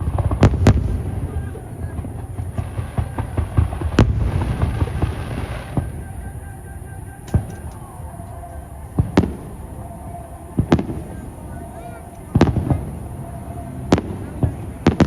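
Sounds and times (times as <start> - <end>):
fireworks bursting: 0.0 - 15.0
hissing crackle: 0.0 - 15.0.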